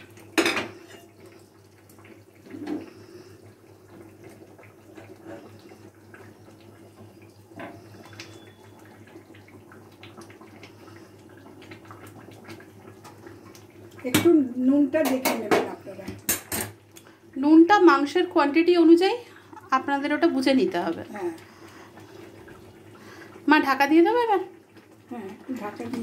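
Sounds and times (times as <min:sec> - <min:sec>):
curry bubbling in a pan: 0:00.0 - 0:26.0.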